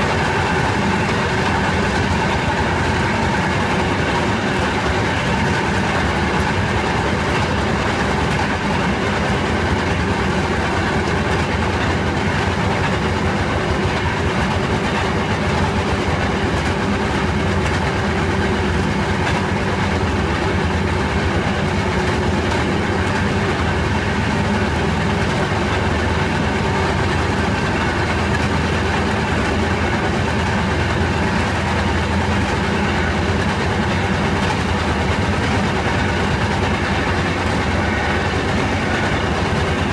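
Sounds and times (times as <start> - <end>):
rail speeder engine drone: 0.0 - 39.9
wheels rolling on rails: 0.0 - 39.9.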